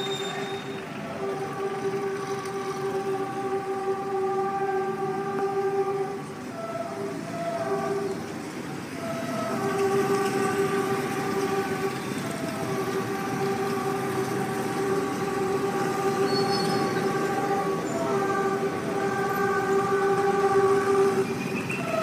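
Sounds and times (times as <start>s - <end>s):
locomotive air horn blasts: 0.0s - 22.0s
low rumble of train: 0.0s - 22.0s.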